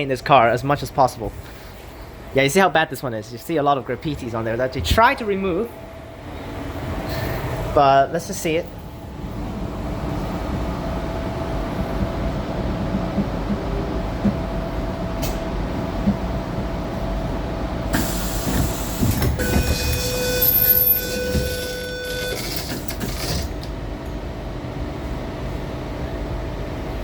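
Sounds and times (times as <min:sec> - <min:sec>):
electric train rumble and hum: 0:00.0 - 0:27.0.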